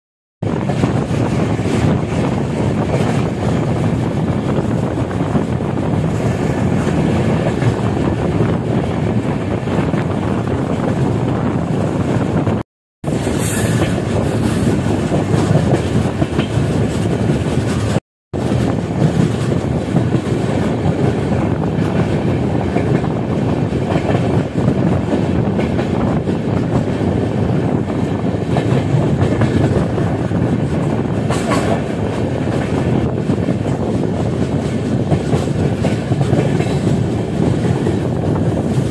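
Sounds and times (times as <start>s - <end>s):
train wheels rumbling on rails: 0.4s - 38.9s.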